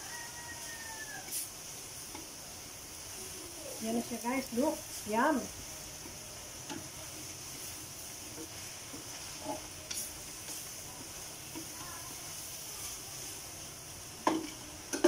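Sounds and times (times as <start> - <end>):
food sizzling in a wok: 0.0 - 15.0
spatula scraping a wok: 0.1 - 2.3, 4.4 - 15.0.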